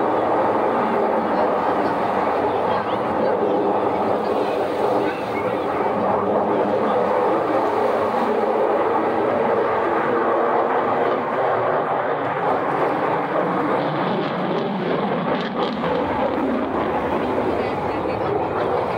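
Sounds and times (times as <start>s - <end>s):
jet flying overhead: 0.0s - 18.9s.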